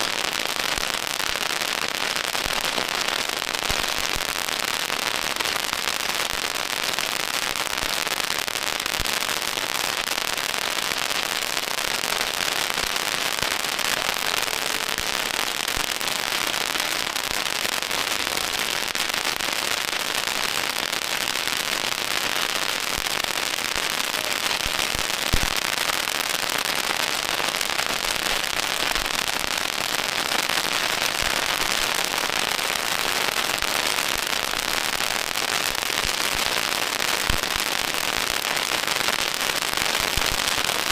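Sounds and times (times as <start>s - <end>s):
firecrackers crackling: 0.0s - 40.9s.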